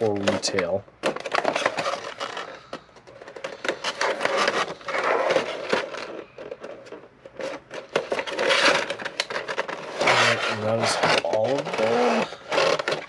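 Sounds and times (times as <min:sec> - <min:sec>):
plastic tray rubbing and scraping: 0:00.0 - 0:13.0.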